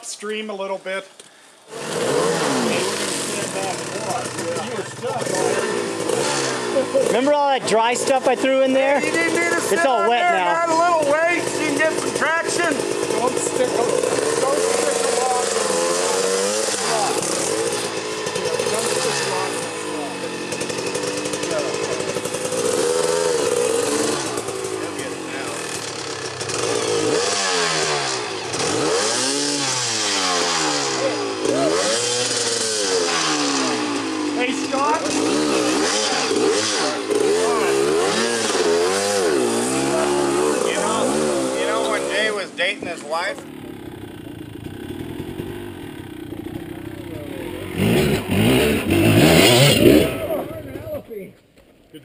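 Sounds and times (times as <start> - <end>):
off-road vehicle engine revving: 1.6 - 51.3.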